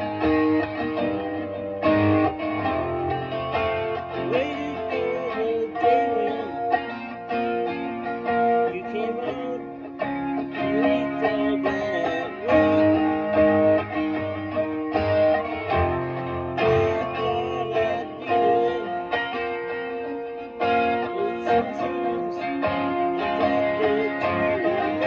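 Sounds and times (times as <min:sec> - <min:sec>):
electric guitar lead line: 0:00.0 - 0:25.0.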